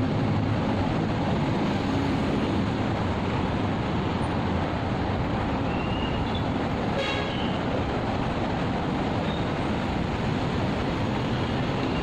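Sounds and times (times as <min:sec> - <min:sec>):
city road traffic roar: 0:00.0 - 0:12.0.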